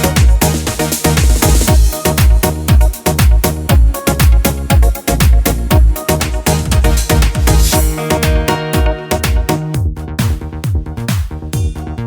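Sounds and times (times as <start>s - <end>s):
keyboard melody and chords: 0.0s - 10.4s
deep kick drum dance beat: 0.0s - 12.0s.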